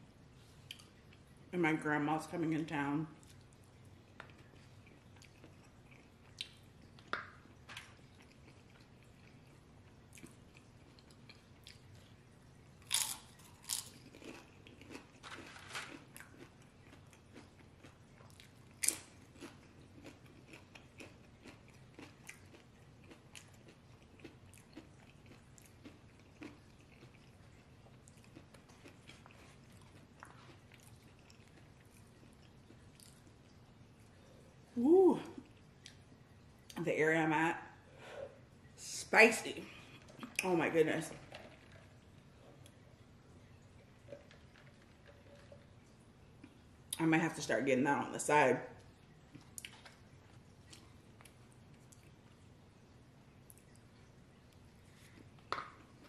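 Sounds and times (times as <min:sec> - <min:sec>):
chewing food: 0:03.2 - 0:34.6, 0:35.4 - 0:36.8, 0:41.1 - 0:47.0, 0:48.8 - 0:52.5, 0:53.4 - 0:56.0.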